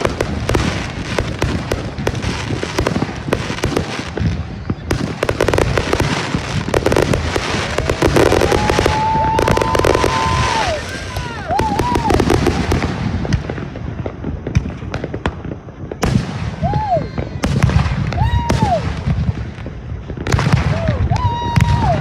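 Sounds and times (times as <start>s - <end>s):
firework shells bursting: 0.0s - 22.0s
fireworks crackling: 0.0s - 22.0s.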